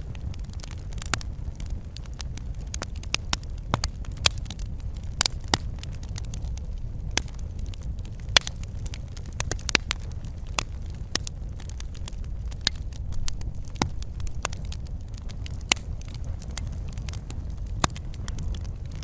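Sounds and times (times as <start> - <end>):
low rumble of flames: 0.0 - 19.0
wood fire popping and snapping: 0.0 - 19.0.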